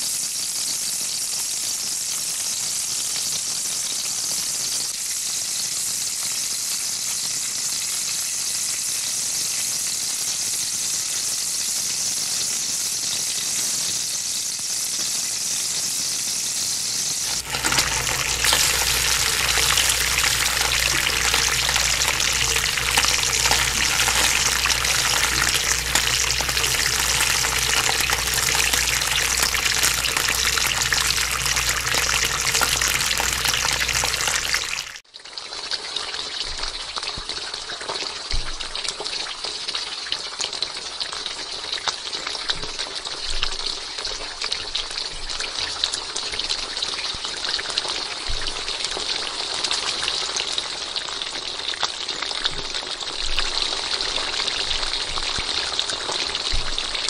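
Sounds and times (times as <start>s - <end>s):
hot oil sizzling: 0.0s - 37.1s, 37.8s - 57.0s.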